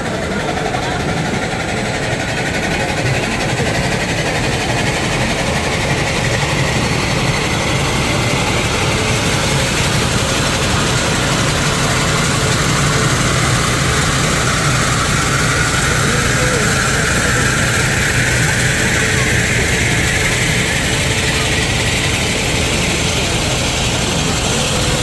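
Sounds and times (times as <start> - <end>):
metal spinning machine running: 0.0 - 25.0.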